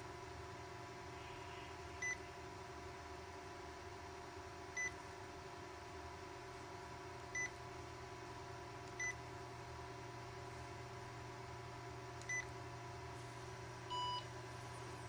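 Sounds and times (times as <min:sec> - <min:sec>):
faint electronic hum: 0:00.0 - 0:15.0.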